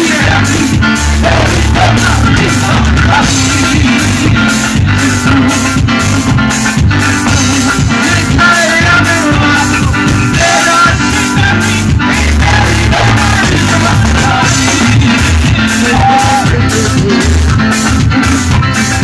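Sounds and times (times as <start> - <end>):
electric guitar: 0.0 - 19.0
electric keyboard: 0.0 - 19.0
heavy bass line: 0.0 - 19.0
steady drum beat: 0.0 - 19.0.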